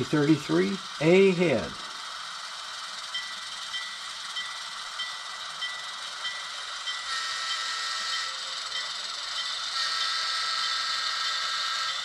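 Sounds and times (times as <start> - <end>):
model locomotive whining: 0.0 - 12.0.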